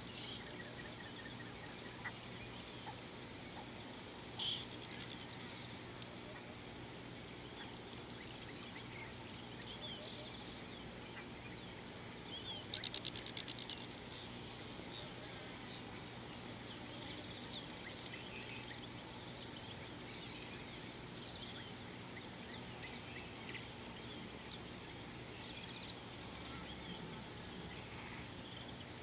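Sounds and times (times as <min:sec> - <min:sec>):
faint low hum: 0:00.0 - 0:29.0
steady background hiss: 0:00.0 - 0:29.0.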